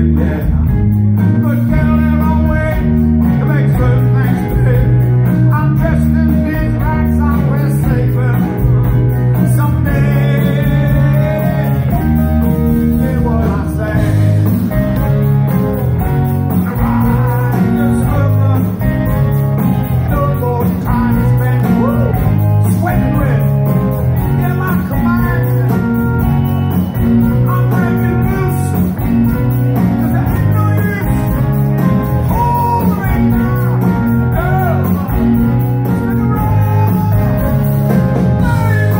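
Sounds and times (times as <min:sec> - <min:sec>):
man singing: 0:00.0 - 0:15.3, 0:16.0 - 0:26.4, 0:27.1 - 0:38.9
electric bass line: 0:00.0 - 0:38.9
electric guitar: 0:00.0 - 0:38.9
keyboard: 0:00.0 - 0:38.9.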